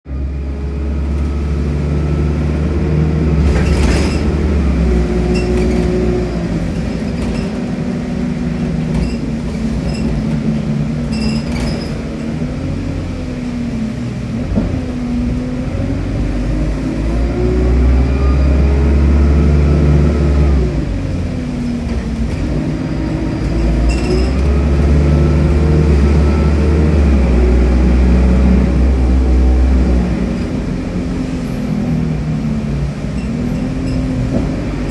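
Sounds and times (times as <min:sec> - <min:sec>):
bus diesel engine pulling hard: 0:00.1 - 0:34.9
bus interior rattles: 0:00.1 - 0:34.9.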